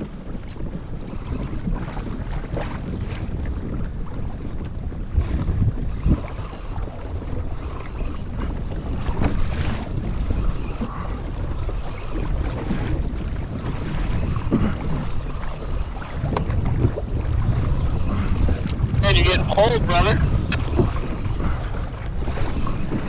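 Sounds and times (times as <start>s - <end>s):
water slapping against hull: 0.0s - 23.0s
wind rumbling on microphone: 0.0s - 23.0s.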